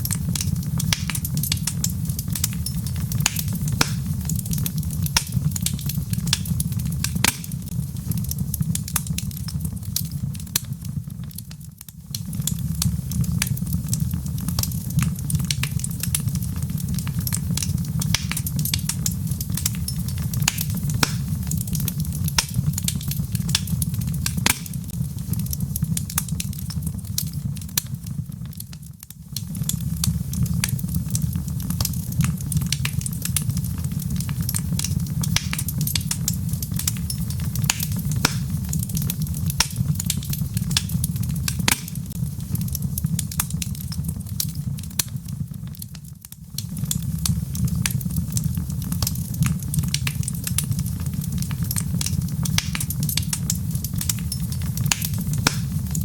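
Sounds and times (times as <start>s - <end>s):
burning logs crackling: 0.0s - 56.0s
low rumble of flames: 0.0s - 56.0s.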